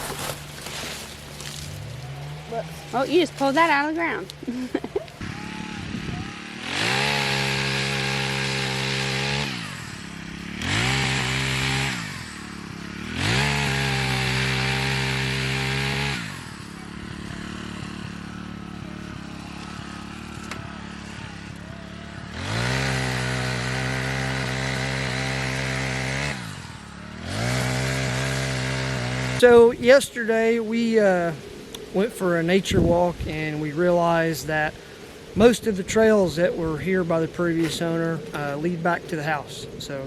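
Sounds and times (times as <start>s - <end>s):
chainsaw revving and idling: 0.0s - 40.0s.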